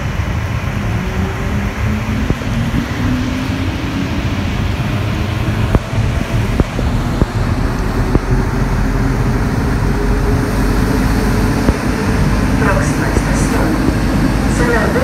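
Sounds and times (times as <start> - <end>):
train tyres rumbling: 0.0 - 15.0.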